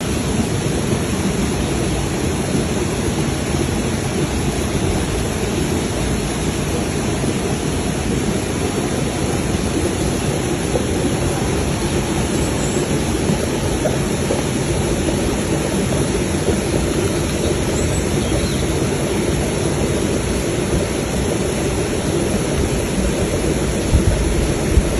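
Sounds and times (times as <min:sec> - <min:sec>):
steady rushing noise: 0:00.0 - 0:24.9.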